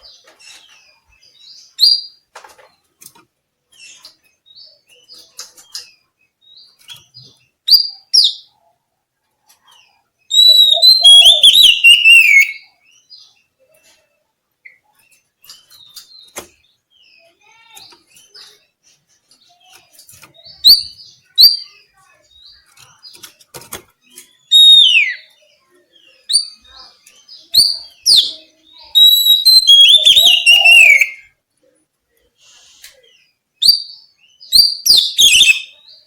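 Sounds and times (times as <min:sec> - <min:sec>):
bird singing: 0:03.7 - 0:08.8, 0:09.4 - 0:36.0.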